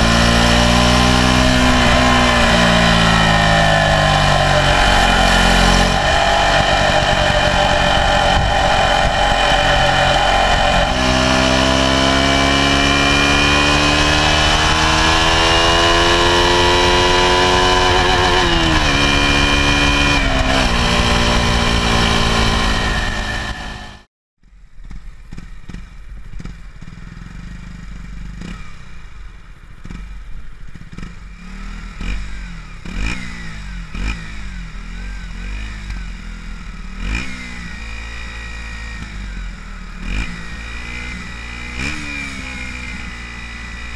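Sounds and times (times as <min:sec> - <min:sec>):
motorcycle engine revving: 0:00.0 - 0:24.1, 0:24.8 - 0:43.9.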